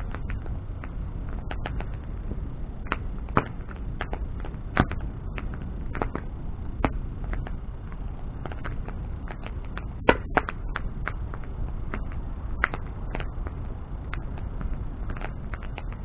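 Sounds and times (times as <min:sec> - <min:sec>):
bonfire crackling and popping: 0:00.0 - 0:16.0
low fire rumble: 0:00.0 - 0:16.0.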